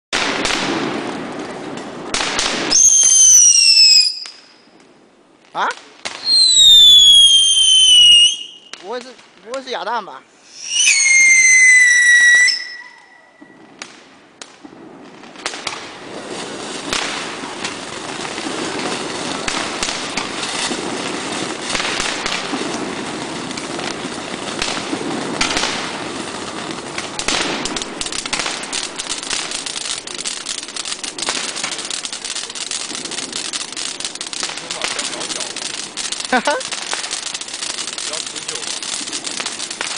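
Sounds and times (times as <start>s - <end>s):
firework fountain hissing and crackling: 0.2s - 39.9s.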